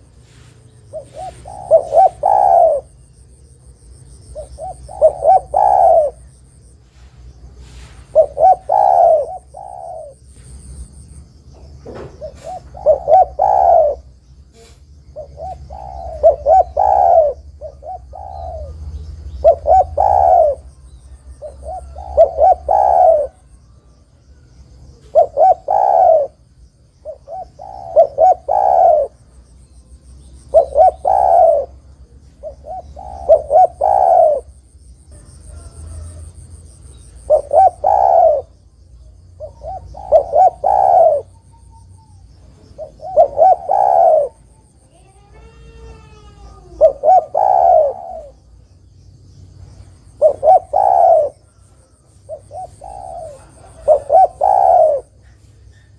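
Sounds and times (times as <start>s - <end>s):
dove cooing: 0.0s - 3.6s, 4.2s - 6.5s, 7.5s - 10.8s, 11.6s - 29.3s, 30.4s - 48.6s, 50.0s - 55.9s.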